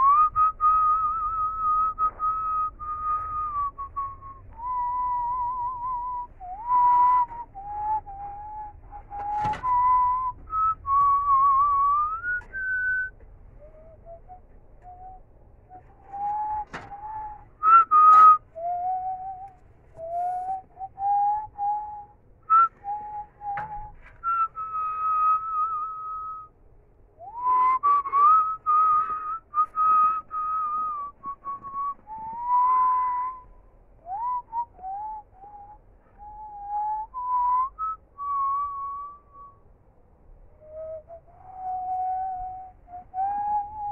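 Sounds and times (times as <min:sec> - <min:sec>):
person whistling a tune: 0:00.0 - 0:26.5, 0:27.2 - 0:39.7, 0:40.5 - 0:43.9.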